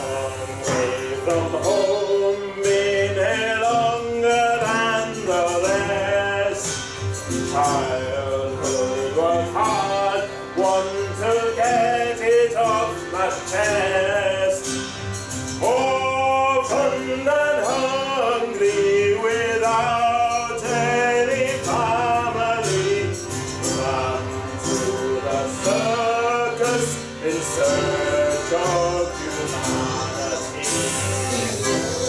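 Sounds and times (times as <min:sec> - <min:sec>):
man singing: 0:00.0 - 0:15.0, 0:15.6 - 0:32.0
instrumental accompaniment: 0:00.0 - 0:32.0.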